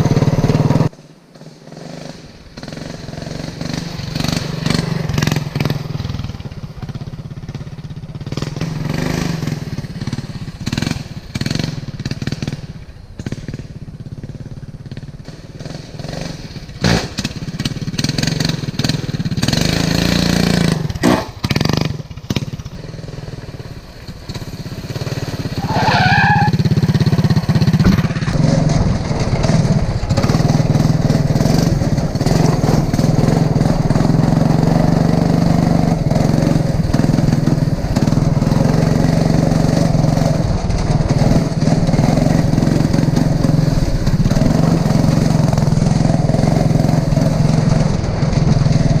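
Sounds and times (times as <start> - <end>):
lawn mower engine running: 0.0 - 49.0.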